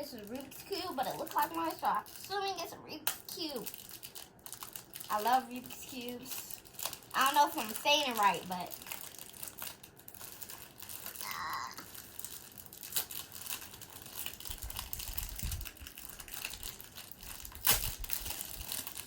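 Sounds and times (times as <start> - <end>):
plastic packaging crinkling: 0.0 - 19.0
plastic cracking: 3.0 - 19.0.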